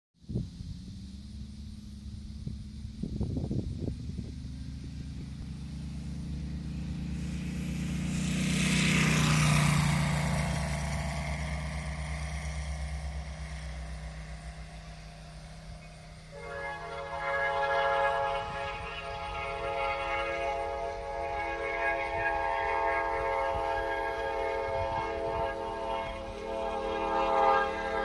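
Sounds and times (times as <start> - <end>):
model plane engine fly-by: 0.2 - 28.0.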